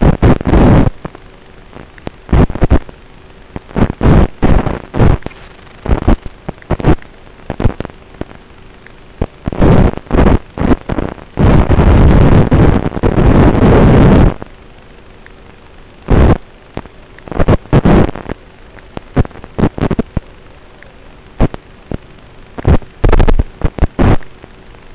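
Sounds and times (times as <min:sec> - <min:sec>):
faint steady hum: 0:00.0 - 0:24.9
quiet hiss: 0:00.0 - 0:24.9
static hiss bursts: 0:00.0 - 0:24.9.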